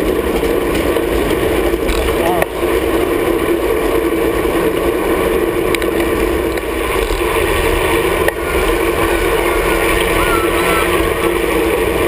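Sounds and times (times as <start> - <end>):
low rumble: 0.0 - 12.0
road noise: 0.0 - 12.0.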